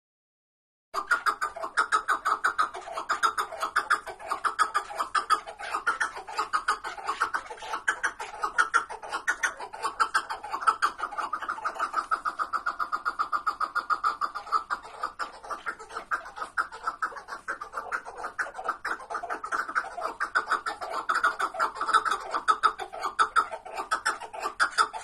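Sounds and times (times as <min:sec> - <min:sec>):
partridges calling: 0:01.0 - 0:25.0.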